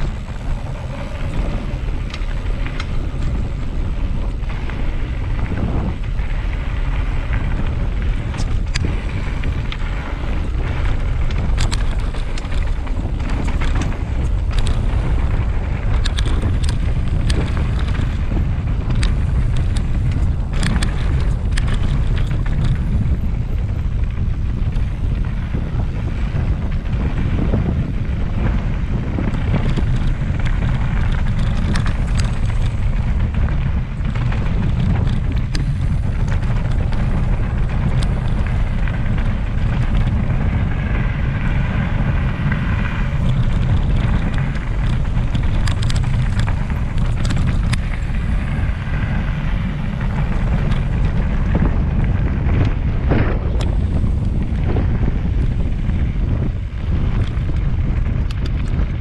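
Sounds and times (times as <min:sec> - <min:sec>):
sharp clicks and rattles: 0:00.0 - 0:59.0
wind rumble on microphone: 0:00.0 - 0:59.0.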